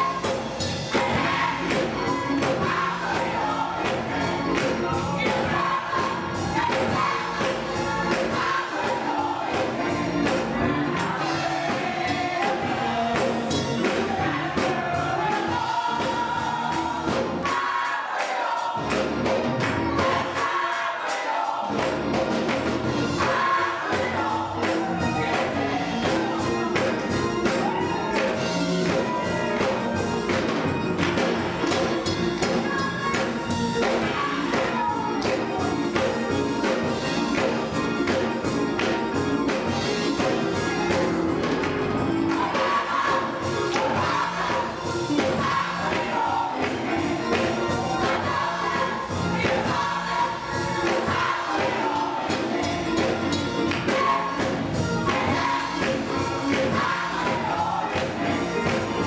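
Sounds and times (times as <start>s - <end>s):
gospel choir singing: 0.0s - 59.0s
keyboard accompaniment: 0.0s - 59.0s.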